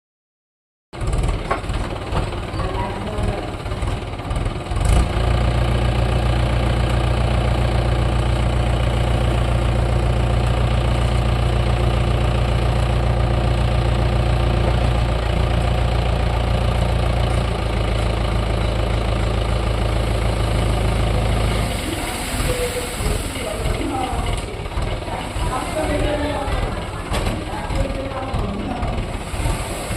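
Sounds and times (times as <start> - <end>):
tractor diesel engine running: 1.0 - 29.9.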